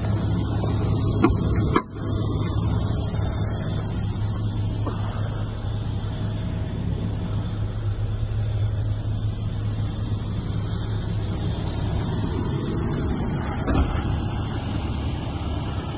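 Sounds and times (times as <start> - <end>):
diesel engine running: 0.0 - 15.9.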